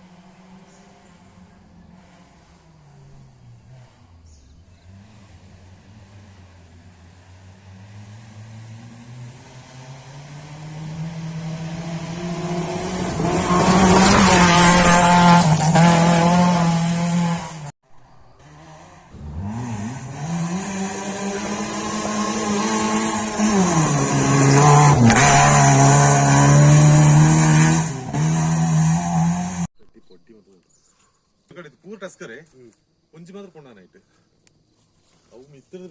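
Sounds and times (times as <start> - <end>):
rally car engine at high revs: 0.0 - 17.7, 18.3 - 29.7.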